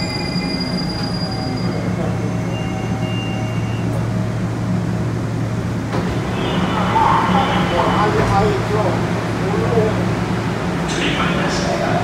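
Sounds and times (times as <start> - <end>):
train car low hum: 0.0 - 12.0.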